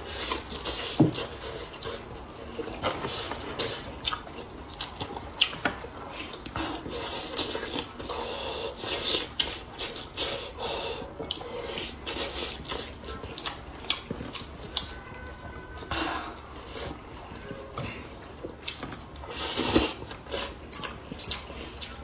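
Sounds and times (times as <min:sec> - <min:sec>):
wet chewing and lip smacking: 0:00.2 - 0:10.6, 0:11.2 - 0:14.9, 0:18.2 - 0:22.0.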